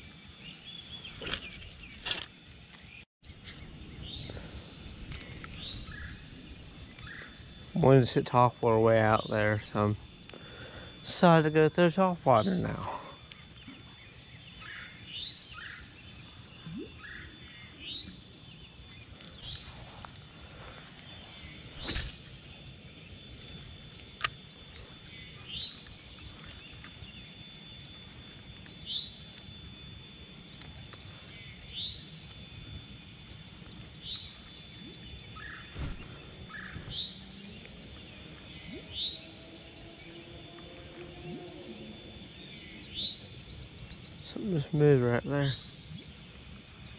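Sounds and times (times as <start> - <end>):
steady outdoor hiss: 0.0 - 46.9
birds chirping: 0.3 - 46.9.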